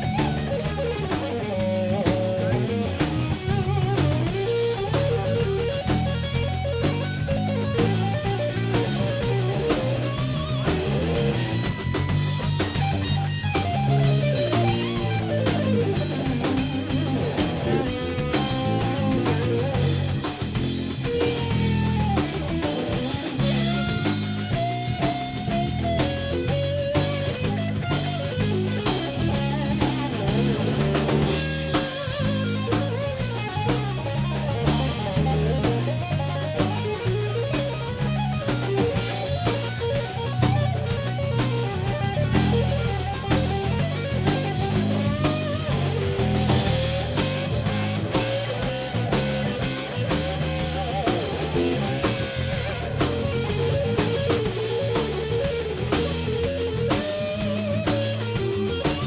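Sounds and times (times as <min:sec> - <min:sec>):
bass guitar: 0:00.0 - 0:59.0
drum kit playing: 0:00.0 - 0:59.0
electric guitar melody: 0:00.0 - 0:59.0.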